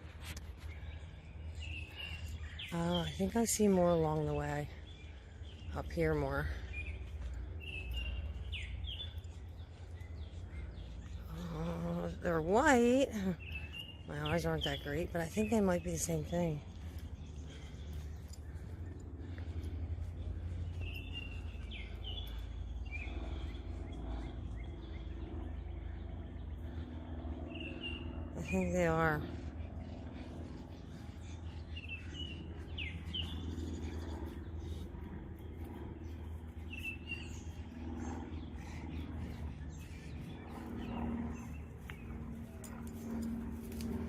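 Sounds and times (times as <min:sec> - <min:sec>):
birds chirping: 0:00.0 - 0:44.0
low outdoor rumble: 0:00.0 - 0:44.0.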